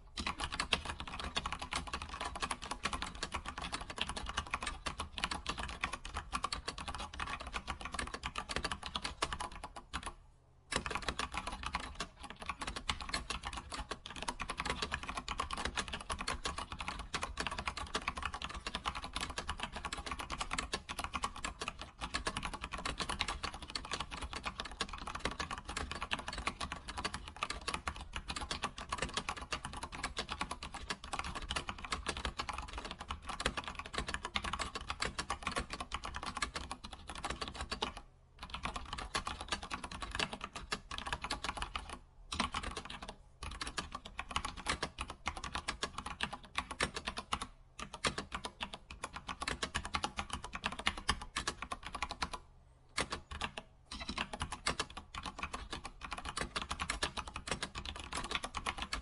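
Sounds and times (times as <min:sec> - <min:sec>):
keyboard typing: 0:00.1 - 0:59.0.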